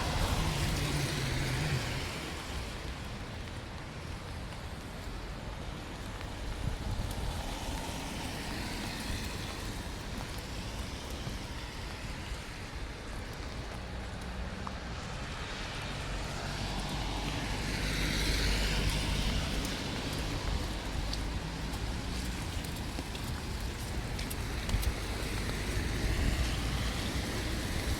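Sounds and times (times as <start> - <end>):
rain falling: 0.0 - 27.9
vehicle tyres hissing on wet road: 0.0 - 27.9.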